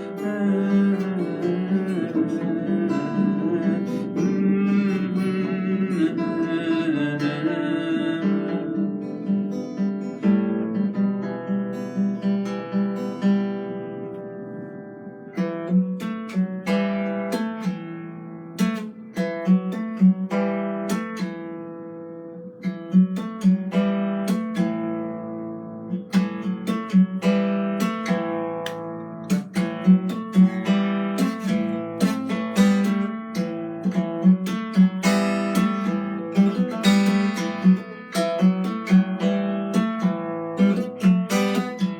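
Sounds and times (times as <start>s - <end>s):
plucked string instrument: 0.0s - 41.9s.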